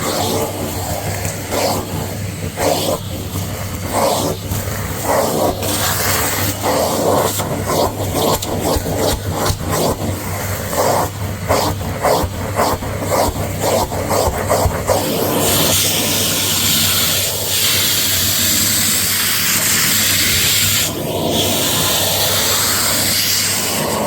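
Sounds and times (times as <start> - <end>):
vacuum suction hiss: 0.0 - 24.0
vacuum tool scraping dirt: 0.0 - 24.0.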